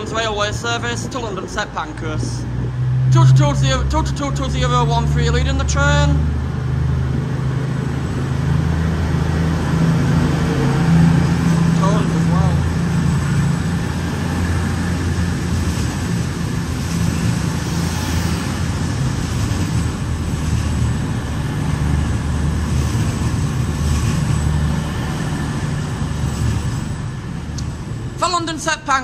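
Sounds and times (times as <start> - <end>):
diesel train engines droning: 0.0 - 29.0.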